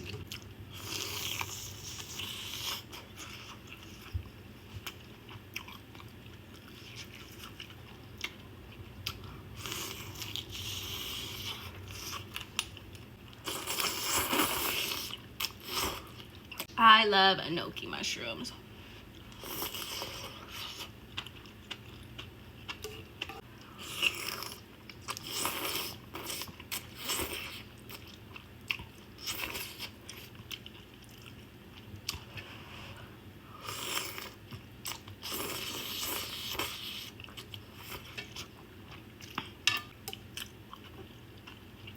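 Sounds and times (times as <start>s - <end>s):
person chewing food: 0.0s - 16.7s, 18.8s - 41.9s.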